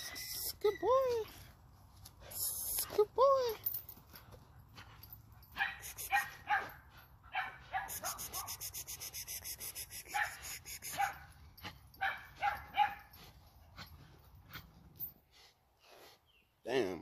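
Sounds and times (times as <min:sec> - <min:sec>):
chain rattling: 0:00.0 - 0:07.3, 0:07.9 - 0:15.3.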